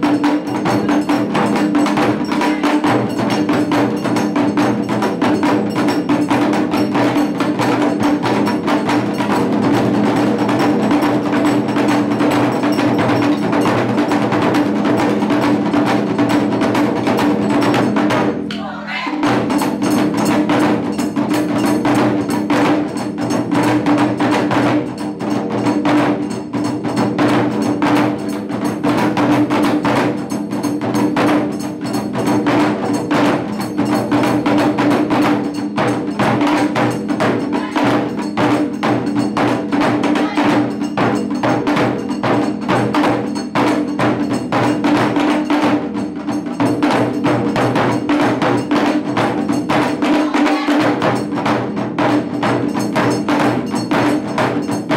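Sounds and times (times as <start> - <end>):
taiko drumming: 0.0 - 54.9.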